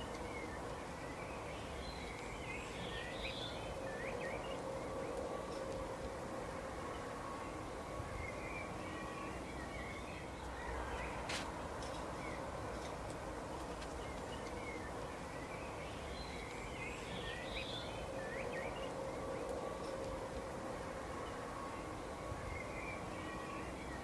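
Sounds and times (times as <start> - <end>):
garden birds chirping: 0.0 - 24.0
outdoor background hiss: 0.0 - 24.0.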